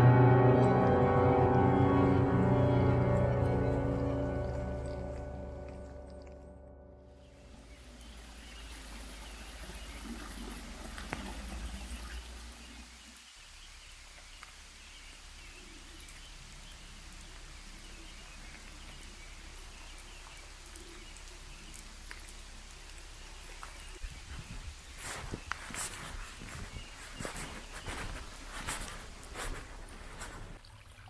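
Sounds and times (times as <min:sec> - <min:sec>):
water dripping in forest: 0:02.5 - 0:31.0.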